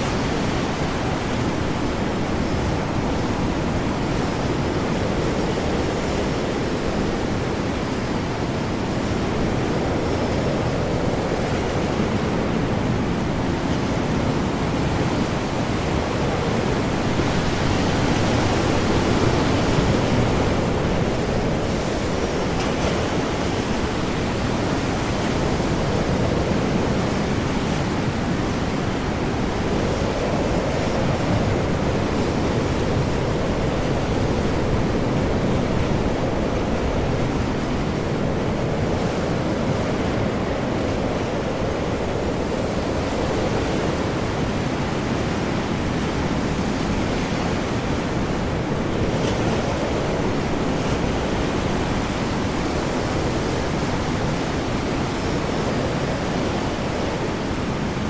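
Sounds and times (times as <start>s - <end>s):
high winds: 0.0s - 58.0s
large waves breaking: 0.0s - 58.0s.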